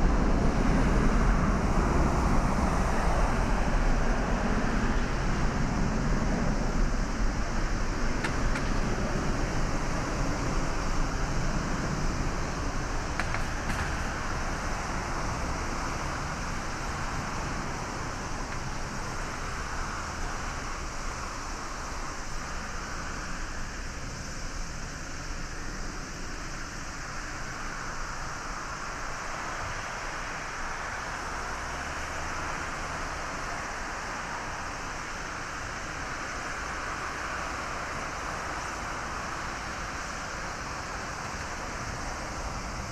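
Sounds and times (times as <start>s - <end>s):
jet engines at takeoff: 0.0s - 42.9s.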